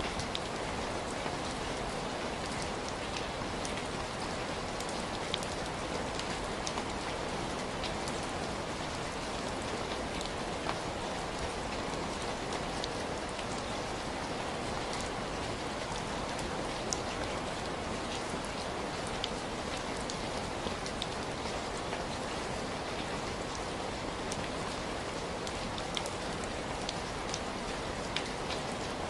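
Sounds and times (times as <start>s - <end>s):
raindrops ticking on a surface: 0.0s - 29.0s.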